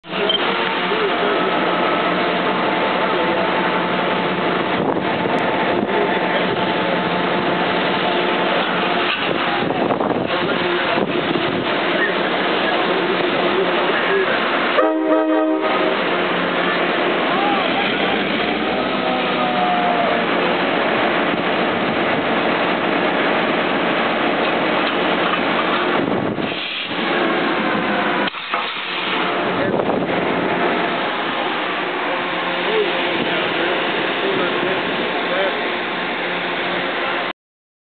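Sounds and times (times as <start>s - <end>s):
diesel locomotive engine idling: 0.0s - 37.3s.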